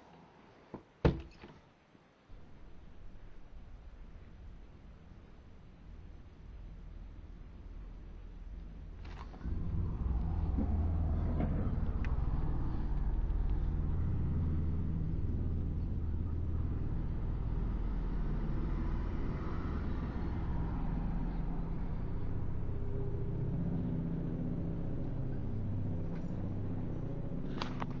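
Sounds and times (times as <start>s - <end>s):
motor vehicle rumbling: 2.3s - 28.0s.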